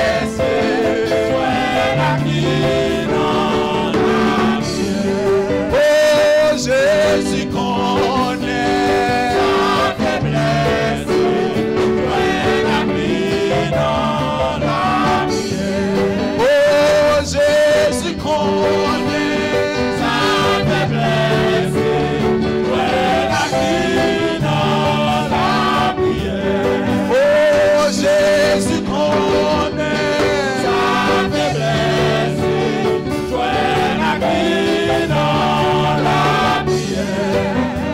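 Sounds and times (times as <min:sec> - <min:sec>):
congregation singing: 0:00.0 - 0:37.9
instrumental accompaniment: 0:00.0 - 0:37.9
man singing into a microphone: 0:00.7 - 0:11.3, 0:13.8 - 0:21.9, 0:22.7 - 0:37.9.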